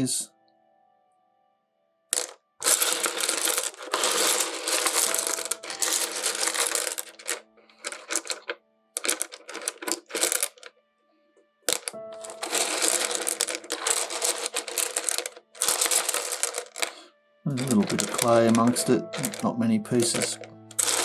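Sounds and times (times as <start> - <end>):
stones clattering together: 2.2 - 10.7, 11.7 - 21.0.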